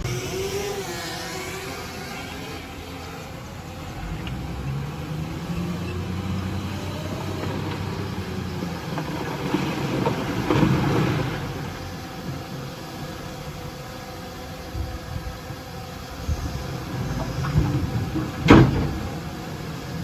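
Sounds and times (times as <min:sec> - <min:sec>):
diesel engine of earthmoving machine: 0:00.0 - 0:20.0.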